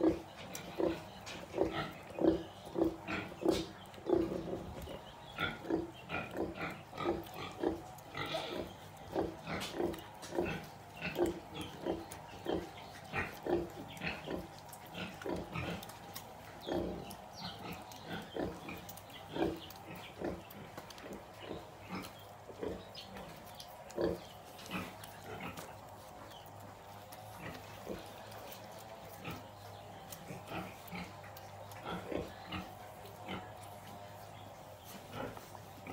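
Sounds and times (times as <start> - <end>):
sow grunting: 0.0 - 35.9.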